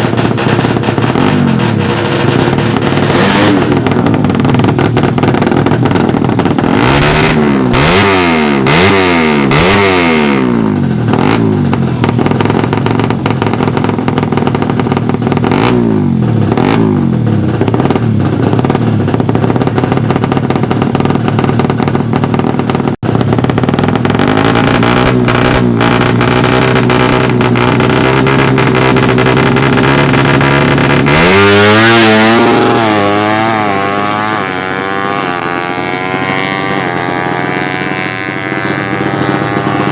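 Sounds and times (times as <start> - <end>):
motorcycle accelerating through gears: 0.0 - 39.9
motorcycle engines revving hard: 0.0 - 39.9.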